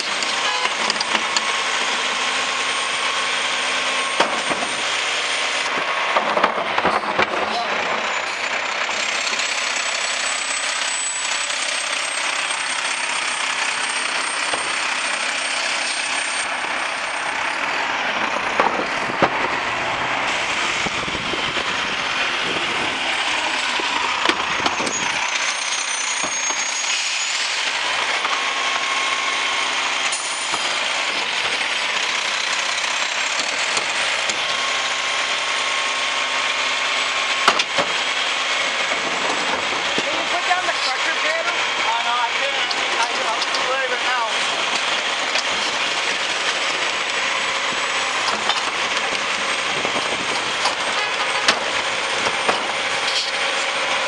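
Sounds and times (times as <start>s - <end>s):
garbage truck engine and hydraulics: 0.0s - 54.0s.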